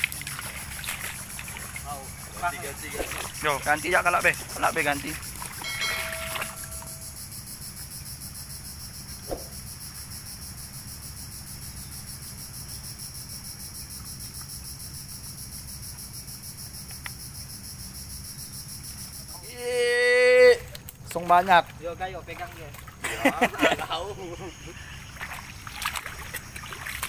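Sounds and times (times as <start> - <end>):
high pulsing insect chorus: 0.0 - 27.0.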